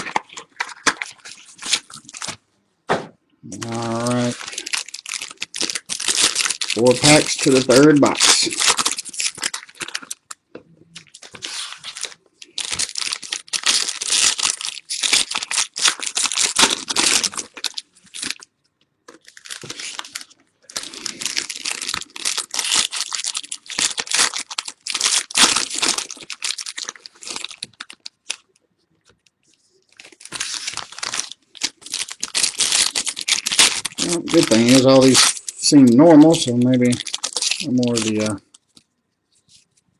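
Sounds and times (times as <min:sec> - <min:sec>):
plastic wrapping tearing and crinkling: 0:00.0 - 0:02.4, 0:03.5 - 0:18.5, 0:19.1 - 0:38.9.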